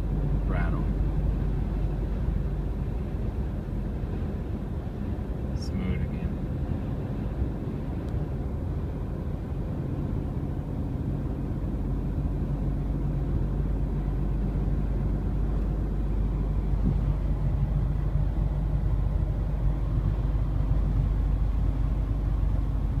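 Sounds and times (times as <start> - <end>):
car cabin road drone: 0.0 - 23.0.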